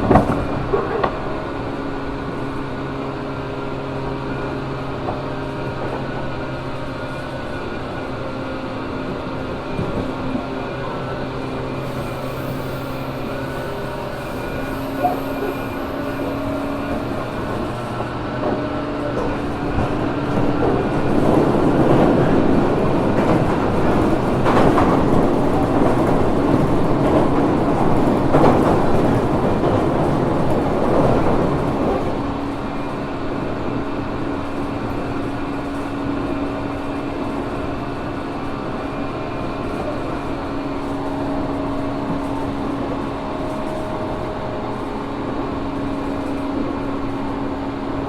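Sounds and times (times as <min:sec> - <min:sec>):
rail rumble: 0:00.0 - 0:48.0
train motor hum: 0:00.0 - 0:48.0.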